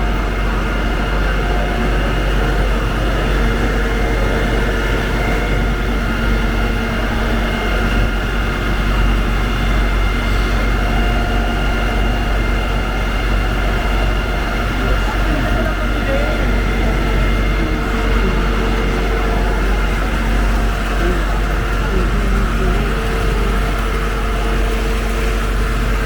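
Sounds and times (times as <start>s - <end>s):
large engine rumbling: 0.0s - 26.0s.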